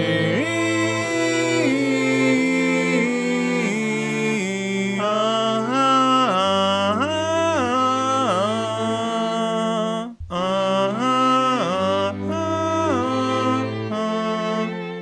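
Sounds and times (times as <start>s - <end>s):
male choir singing a cappella: 0.0s - 15.0s.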